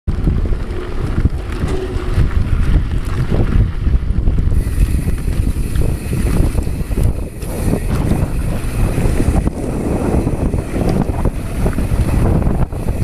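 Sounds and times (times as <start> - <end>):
tyres rolling over gravel: 0.1 - 13.0
wind buffeting microphone: 0.1 - 13.0.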